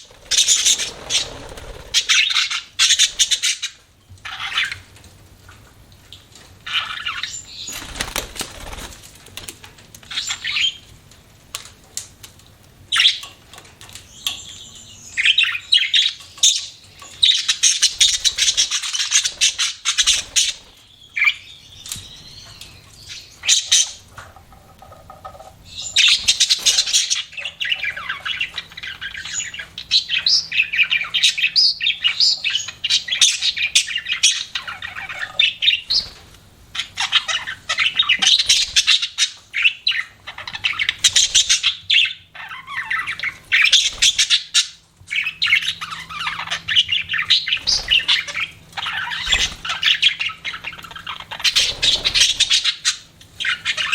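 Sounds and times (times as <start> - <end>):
budgerigars chirping: 0.0 - 4.9, 6.6 - 8.0, 10.1 - 10.8, 12.9 - 13.2, 14.2 - 24.1, 25.7 - 53.9.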